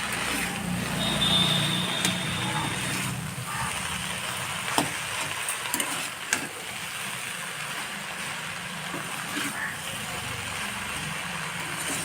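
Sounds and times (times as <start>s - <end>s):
spatula stirring: 0.0s - 12.0s
vegetables sizzling in a pan: 0.0s - 12.0s.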